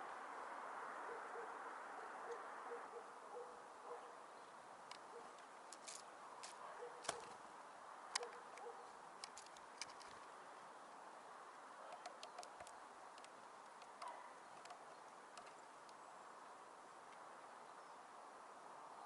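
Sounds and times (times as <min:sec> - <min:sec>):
quiet hiss: 0:00.0 - 0:19.0
small birds chirping: 0:02.3 - 0:18.3.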